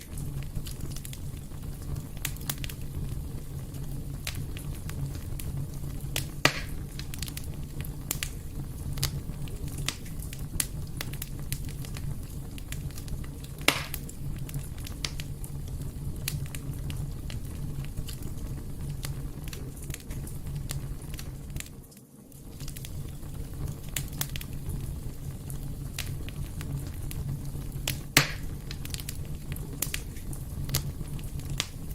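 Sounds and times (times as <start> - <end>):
fire crackling: 0.0 - 31.9
fire rumbling: 0.0 - 31.9
loud fire pops: 0.0 - 31.9.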